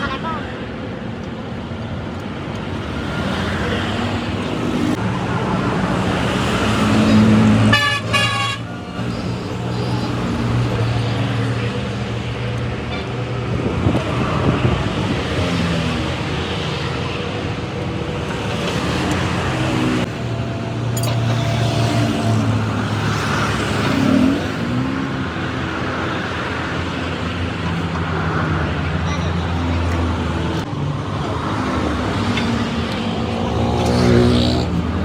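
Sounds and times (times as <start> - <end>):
road noise: 0.0 - 35.0
vehicle engines running: 0.0 - 35.0
vehicles passing: 0.0 - 35.0.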